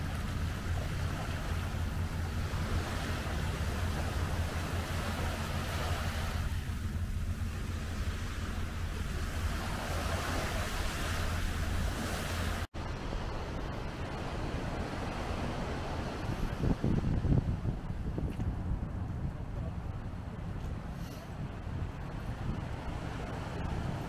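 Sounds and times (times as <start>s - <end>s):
small waves lapping on beach: 0.0s - 18.4s, 19.3s - 24.0s
low wind rumble on microphone: 0.0s - 24.0s.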